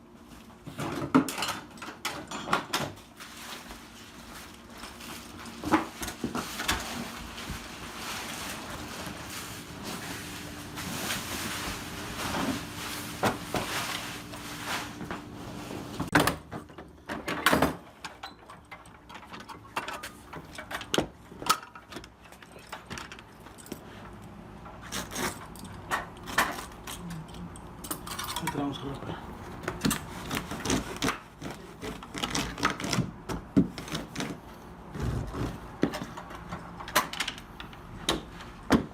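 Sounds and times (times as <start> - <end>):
steady noisy hum: 0.0 - 38.9.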